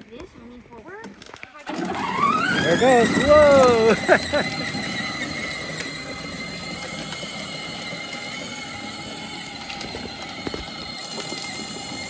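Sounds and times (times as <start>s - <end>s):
wheels rolling on asphalt: 0.0s - 12.0s
electric motor whine: 1.7s - 12.0s.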